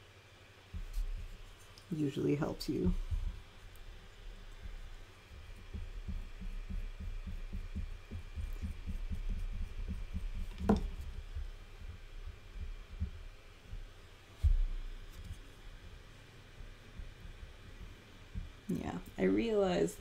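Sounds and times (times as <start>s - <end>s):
soft low thuds on clay: 0.7s - 1.7s, 2.4s - 19.7s.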